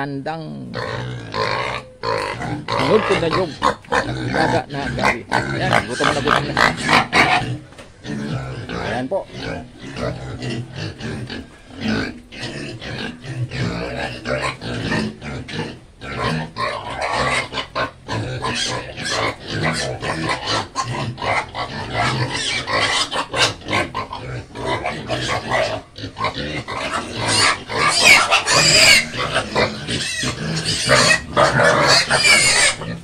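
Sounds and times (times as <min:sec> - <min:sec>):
pigs squealing and grunting: 0:00.7 - 0:33.0.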